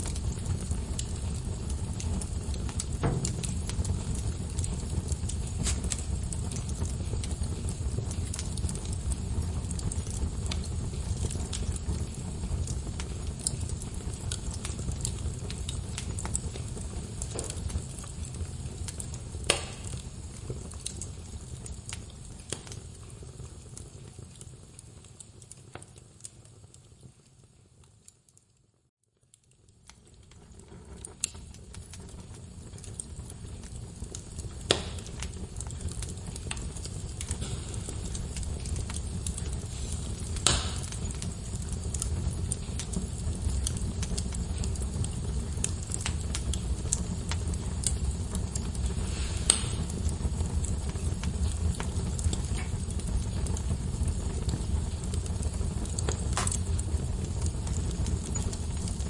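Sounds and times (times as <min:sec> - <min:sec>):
logs crackling and snapping: 0:00.0 - 0:27.0, 0:29.2 - 0:59.0
fire rumbling: 0:00.0 - 0:59.0.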